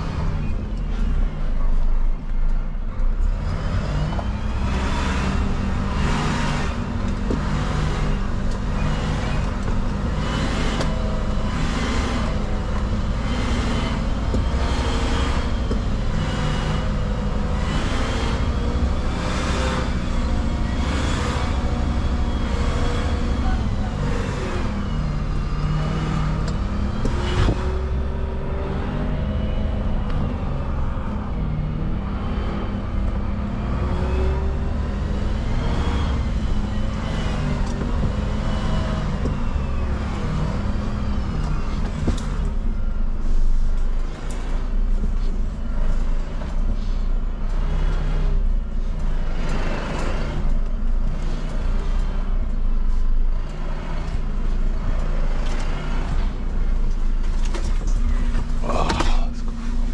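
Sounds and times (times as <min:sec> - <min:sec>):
garbage truck engine running: 0:00.0 - 0:59.9.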